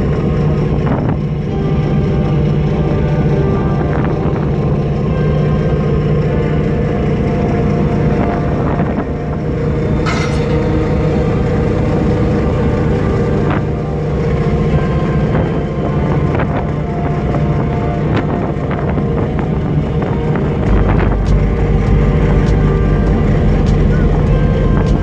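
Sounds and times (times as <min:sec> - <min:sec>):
boat engine and deck machinery drone: 0:00.0 - 0:25.0.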